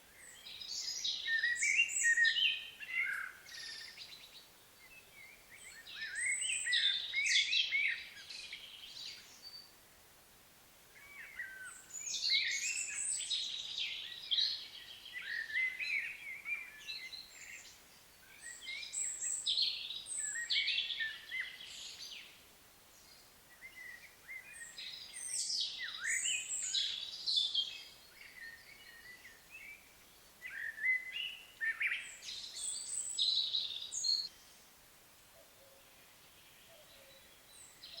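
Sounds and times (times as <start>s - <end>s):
songbird singing: 0.0s - 10.1s, 10.9s - 38.0s.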